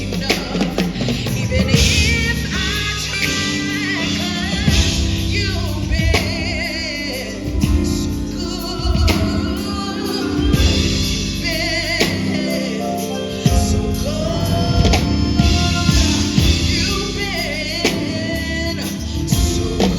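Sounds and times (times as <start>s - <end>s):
band with drums: 0.0s - 19.9s
woman singing with vibrato: 0.0s - 19.9s.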